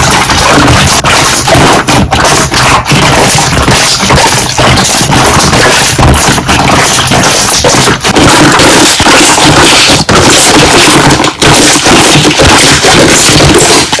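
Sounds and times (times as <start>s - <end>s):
slime bubbles popping: 0.0s - 14.0s.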